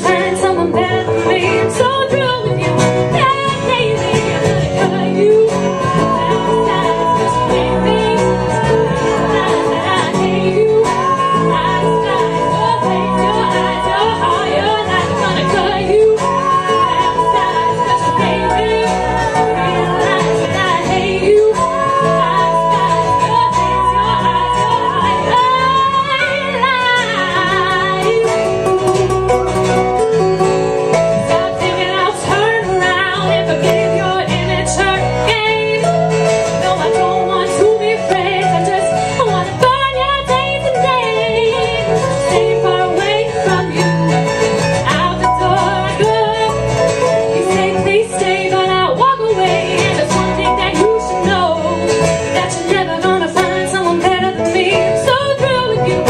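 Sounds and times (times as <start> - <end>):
woman singing harmony: 0.0 - 29.6, 30.4 - 56.0
bass guitar: 0.0 - 56.0
electric guitar: 0.0 - 56.0
strummed acoustic guitar: 0.0 - 56.0
woman singing lead vocal: 0.0 - 56.0.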